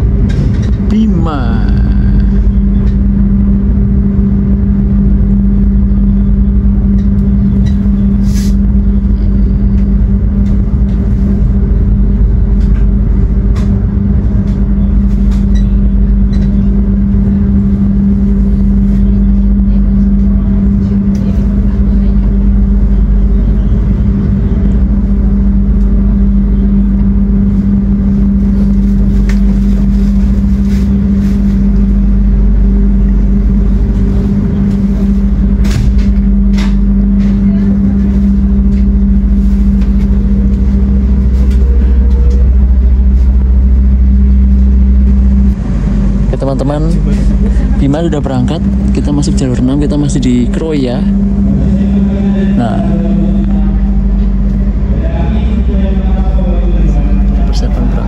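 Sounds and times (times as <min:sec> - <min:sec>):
loud low hum in train coach: 0:00.0 - 0:58.0.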